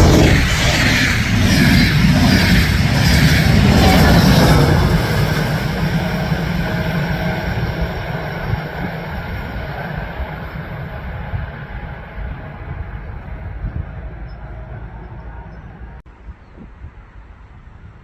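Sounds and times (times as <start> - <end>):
train passing with rail noise: 0.0 - 18.0.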